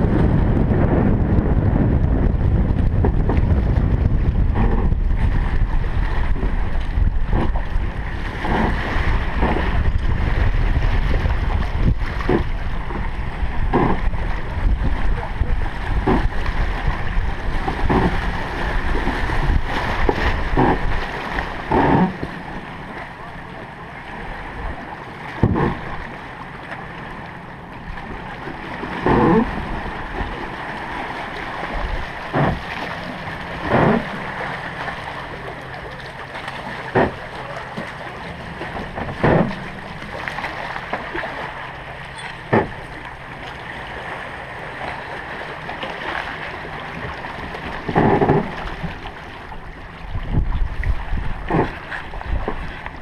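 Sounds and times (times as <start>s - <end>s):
steady water rushing: 0.0s - 53.0s.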